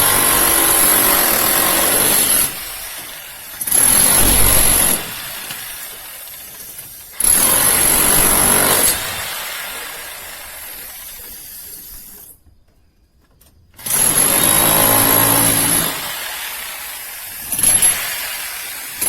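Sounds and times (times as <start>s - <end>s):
demolition hammer chiselling concrete: 0.0s - 11.1s, 13.8s - 19.0s.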